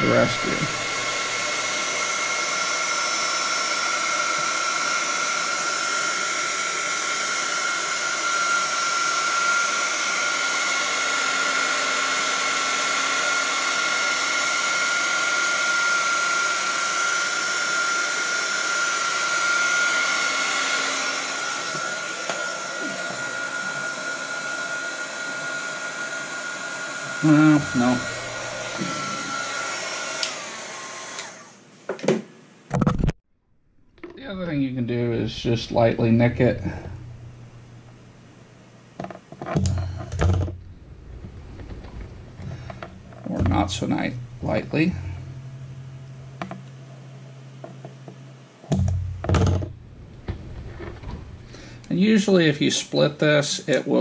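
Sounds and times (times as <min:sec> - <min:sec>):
heat gun fan whine: 0:00.0 - 0:32.4, 0:34.0 - 0:54.0.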